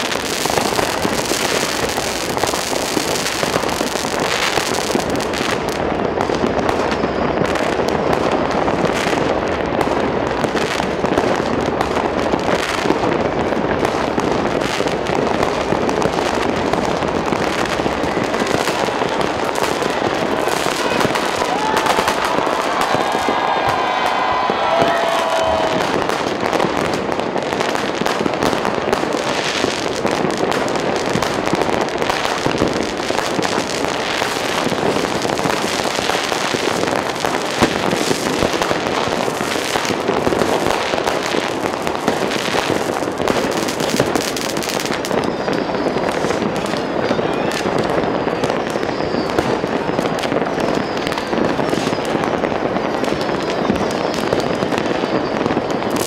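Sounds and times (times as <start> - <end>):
falling firework whistles: 0.0 - 9.2, 14.9 - 56.0
fireworks and firecrackers banging: 0.0 - 56.0.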